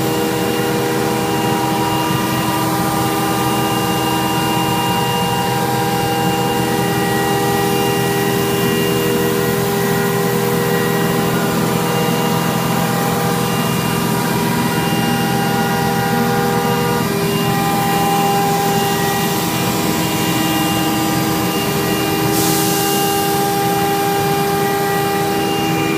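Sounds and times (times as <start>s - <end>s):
router spindle whining: 0.0s - 25.9s.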